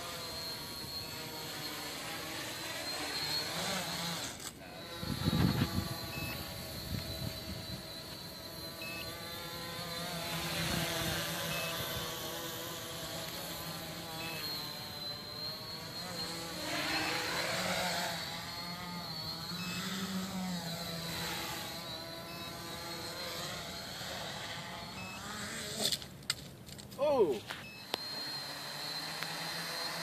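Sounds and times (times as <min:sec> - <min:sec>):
drone motors and propellers whining: 0:00.0 - 0:26.4, 0:27.0 - 0:30.0.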